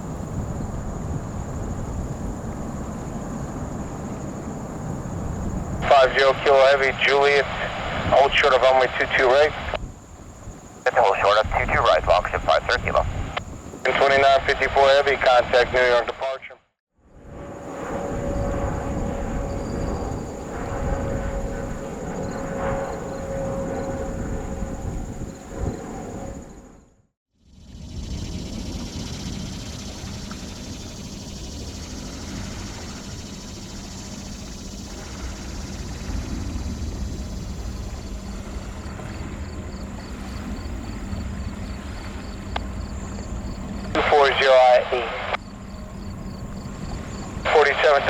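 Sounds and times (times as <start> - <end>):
jet engines rumbling: 0.0 - 26.9, 27.8 - 48.0
high jet engine whine: 0.0 - 48.0.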